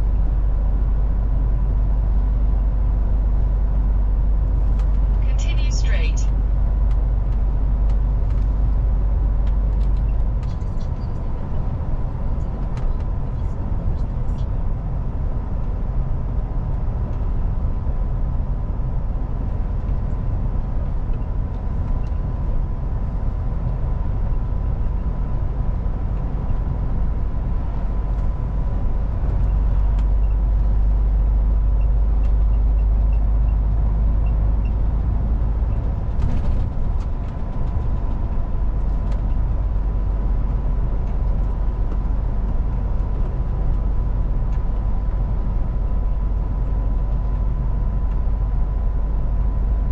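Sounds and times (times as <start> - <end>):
truck diesel engine rumble: 0.0 - 49.9.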